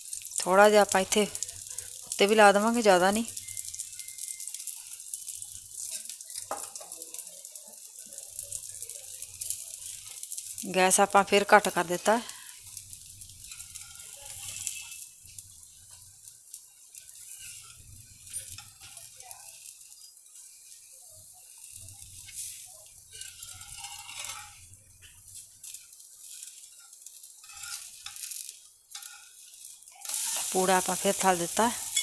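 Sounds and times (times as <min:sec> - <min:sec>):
pancake sizzling in a pan: 0:00.0 - 0:32.0
spatula scraping a pan: 0:03.4 - 0:07.2, 0:08.1 - 0:10.5, 0:12.3 - 0:32.0.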